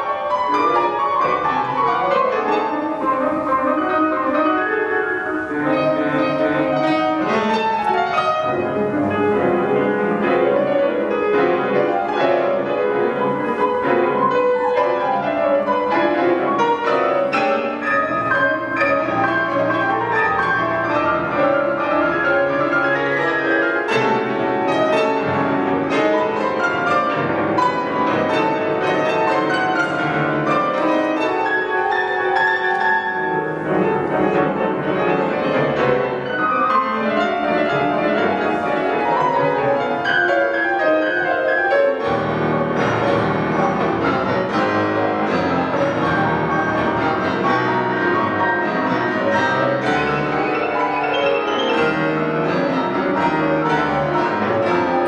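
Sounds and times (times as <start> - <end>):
two pianos playing classical piece: 0.0 - 55.0.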